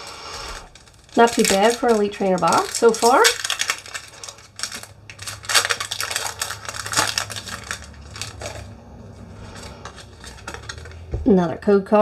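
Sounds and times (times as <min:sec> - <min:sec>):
foil wrapper crinkling and tearing: 0:00.0 - 0:11.1
cards rustling: 0:00.0 - 0:11.2.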